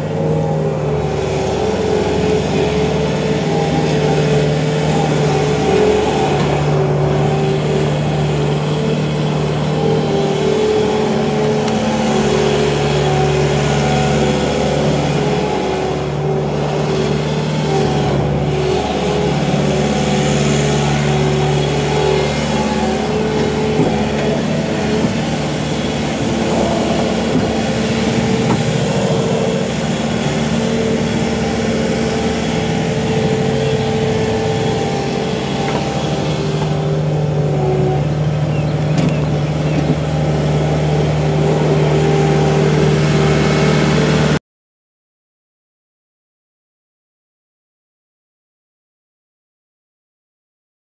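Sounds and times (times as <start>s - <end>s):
diesel engine running: 0.0s - 44.4s.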